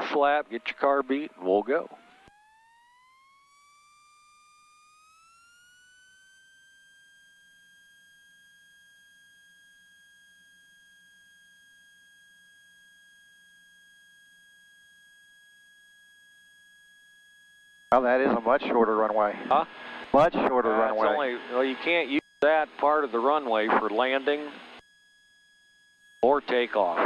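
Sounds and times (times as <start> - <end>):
faint electrical whine: 0.0 - 27.0.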